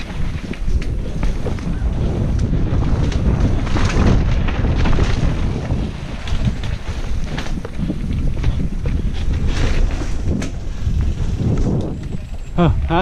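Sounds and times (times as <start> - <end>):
bike clicks and knocks: 0.0 - 13.0
wind rushing over microphone: 0.0 - 13.0.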